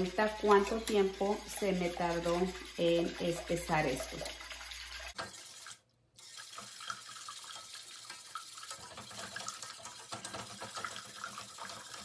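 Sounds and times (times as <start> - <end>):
utensil scraping a steel pot: 0.0 - 12.0.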